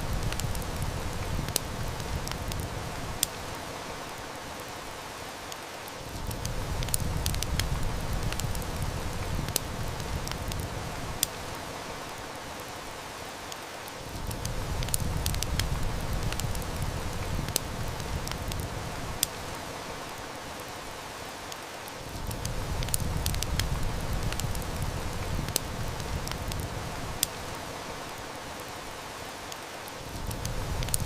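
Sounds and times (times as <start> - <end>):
heavy rain: 0.0 - 31.0
wood fire crackling: 0.0 - 31.0.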